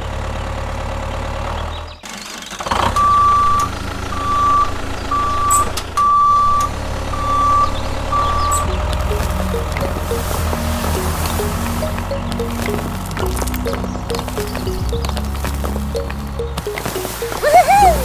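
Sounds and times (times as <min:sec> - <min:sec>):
truck reversing alarm beeping: 0:02.9 - 0:18.0
low engine rumble: 0:03.3 - 0:18.0.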